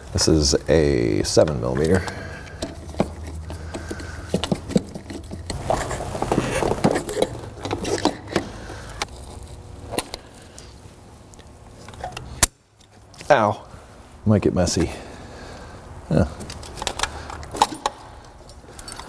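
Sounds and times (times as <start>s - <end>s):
hand tools clicking and scraping: 0.2s - 13.3s, 16.1s - 19.0s.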